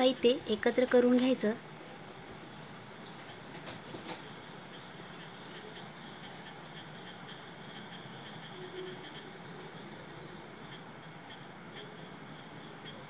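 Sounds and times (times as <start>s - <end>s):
background hiss: 0.0s - 13.0s
insects chirping: 0.0s - 13.0s.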